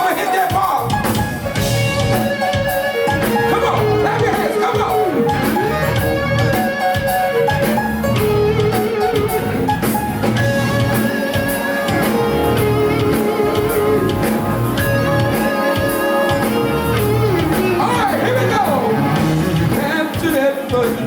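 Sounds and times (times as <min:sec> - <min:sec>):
drum kit: 0:00.0 - 0:21.0
electric guitar: 0:00.0 - 0:21.0
bass: 0:00.6 - 0:06.7, 0:07.3 - 0:11.3, 0:11.9 - 0:15.5, 0:16.3 - 0:20.1.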